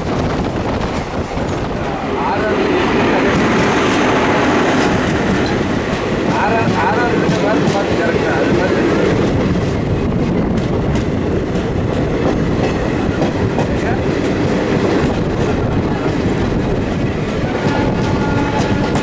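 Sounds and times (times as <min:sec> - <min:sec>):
passenger train rumbling: 0:00.0 - 0:19.0.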